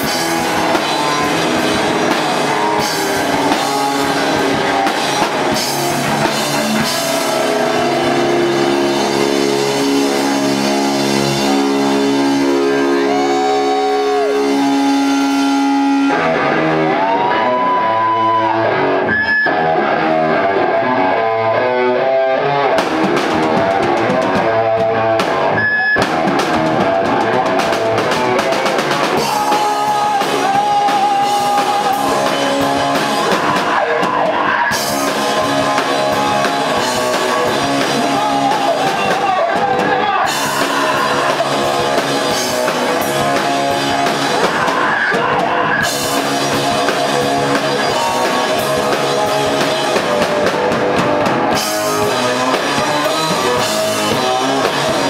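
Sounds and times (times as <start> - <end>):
drum kit: 0.0 - 55.0
electric guitar bent notes: 0.0 - 55.0.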